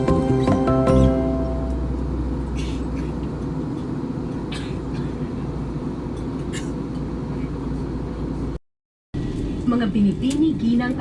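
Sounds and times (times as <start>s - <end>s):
airplane cabin rumble: 0.0s - 8.6s, 9.2s - 11.0s.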